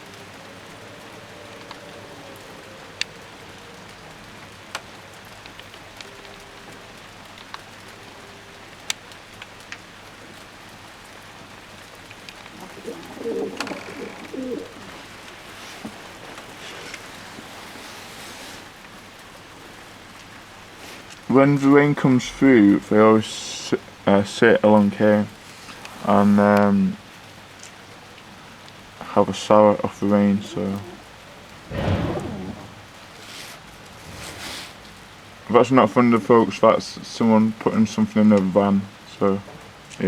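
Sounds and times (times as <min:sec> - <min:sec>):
doves cooing: 0:00.0 - 0:21.3, 0:25.2 - 0:38.2
heavy rain: 0:00.0 - 0:40.0.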